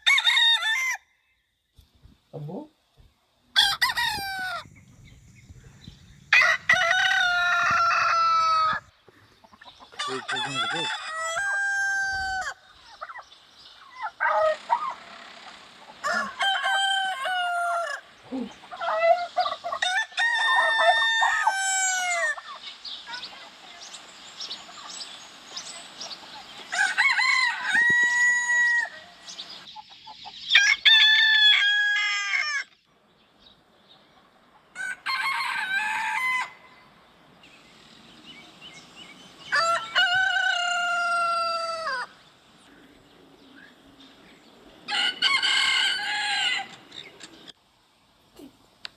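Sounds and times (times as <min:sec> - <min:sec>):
roosters crowing: 0:00.0 - 0:01.2, 0:03.5 - 0:29.7, 0:30.4 - 0:32.8, 0:34.7 - 0:47.6.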